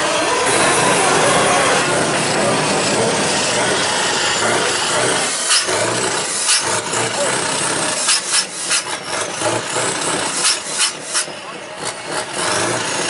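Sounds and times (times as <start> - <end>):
truck engine running loud: 0.0 - 13.0.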